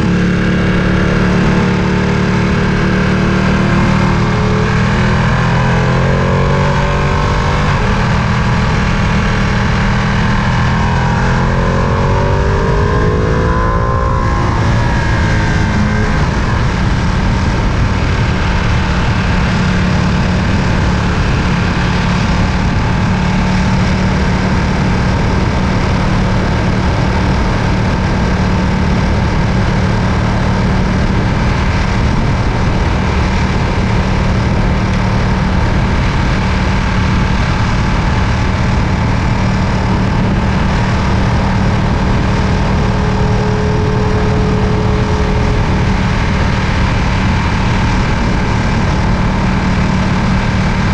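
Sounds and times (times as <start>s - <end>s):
motorcycle engine running steadily: 0.0s - 50.9s.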